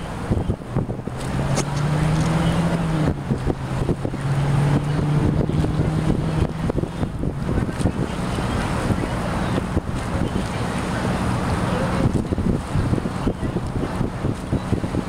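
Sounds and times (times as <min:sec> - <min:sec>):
motorboat engine running: 0:00.0 - 0:15.0
wind buffeting microphone: 0:00.0 - 0:15.0.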